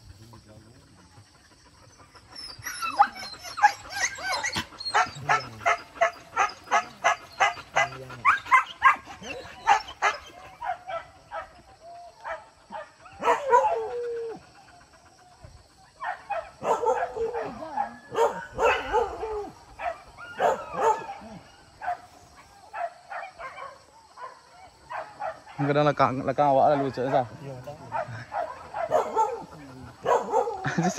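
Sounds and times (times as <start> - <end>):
dogs barking and yelping: 0.6 - 30.9.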